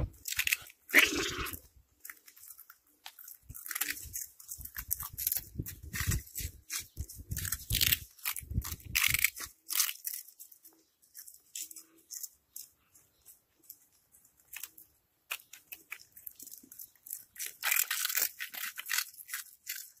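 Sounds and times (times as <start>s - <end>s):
cats crunching snack balls: 0.0s - 20.0s.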